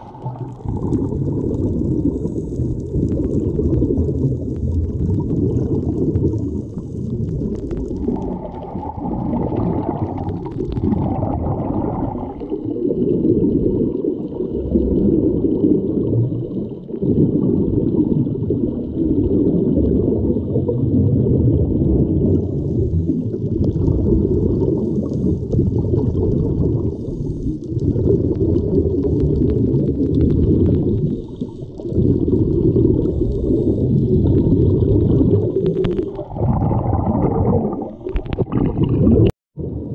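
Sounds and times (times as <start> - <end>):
underwater rumble and water noise: 0.0 - 39.9.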